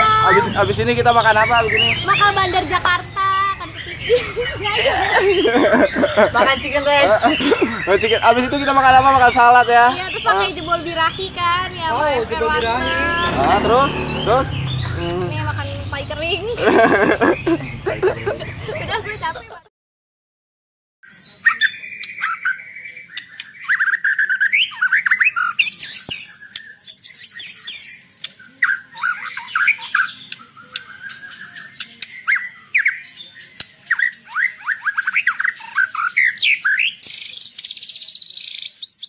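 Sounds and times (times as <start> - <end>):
bird singing varied song: 0.0 - 19.6, 21.0 - 39.0.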